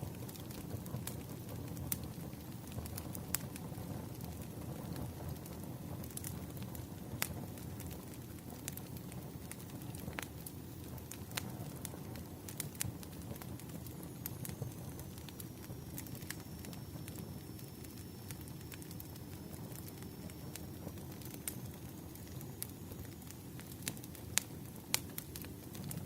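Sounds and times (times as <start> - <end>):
flames rushing: 0.0 - 26.0
logs crackling and popping: 0.0 - 26.0.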